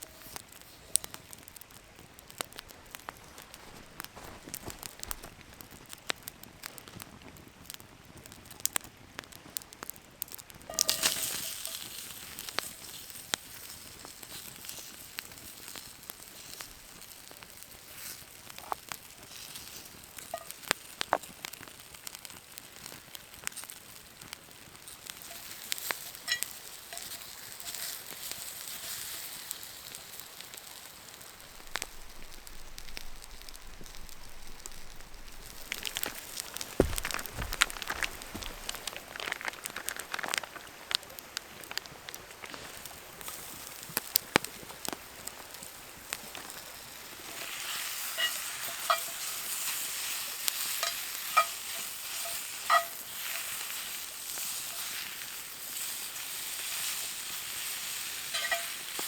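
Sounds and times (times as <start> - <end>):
campfire crackling and hissing: 0.0 - 59.0
fire popping: 0.0 - 59.0.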